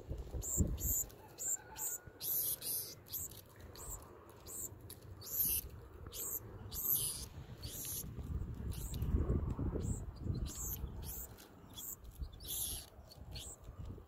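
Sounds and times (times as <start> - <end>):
sparrows chipping: 0.0 - 14.0.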